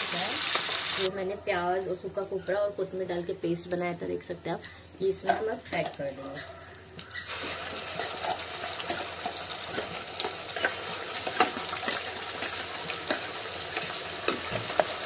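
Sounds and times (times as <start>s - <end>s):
hot oil sizzling and spitting: 0.0s - 1.1s, 1.8s - 15.0s.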